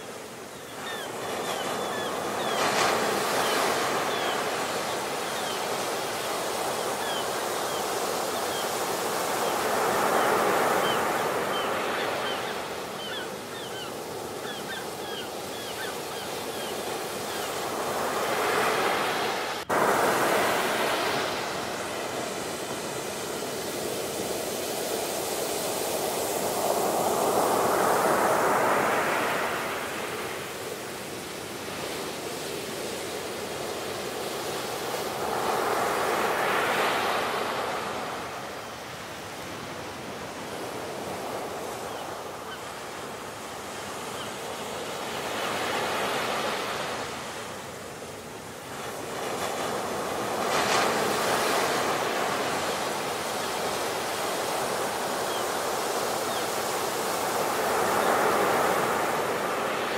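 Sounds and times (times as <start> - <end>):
ocean waves crashing: 0.0 - 59.9.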